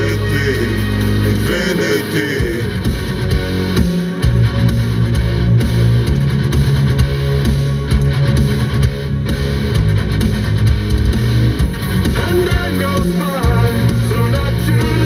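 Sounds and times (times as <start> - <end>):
bass guitar long low notes: 0.0 - 15.0
electric guitar: 0.0 - 15.0.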